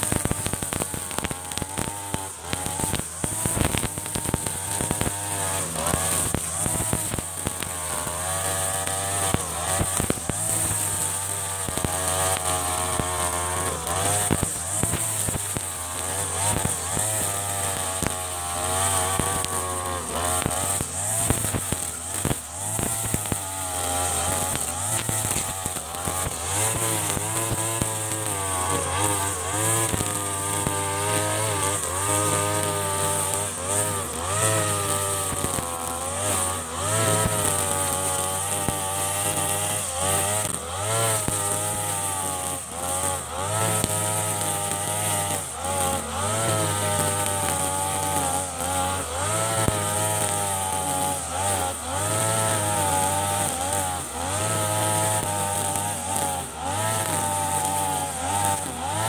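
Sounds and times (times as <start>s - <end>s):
brush cutter engine cutting grass: 0.0s - 59.0s.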